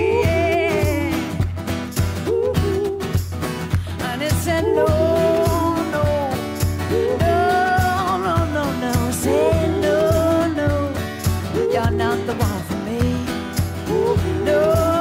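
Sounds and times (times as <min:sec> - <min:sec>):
person singing: 0:00.0 - 0:01.5, 0:02.2 - 0:03.2, 0:03.8 - 0:15.0.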